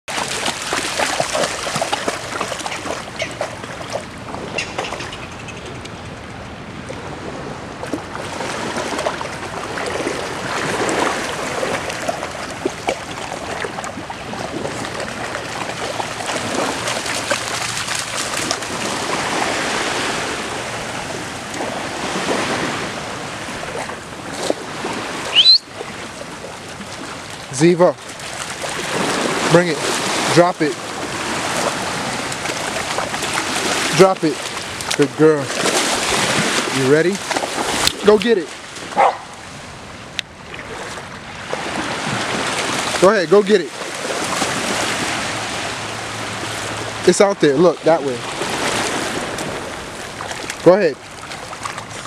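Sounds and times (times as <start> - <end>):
water washing along shore: 0.0 - 52.0
dogs splashing through water: 0.1 - 5.2, 6.9 - 52.0.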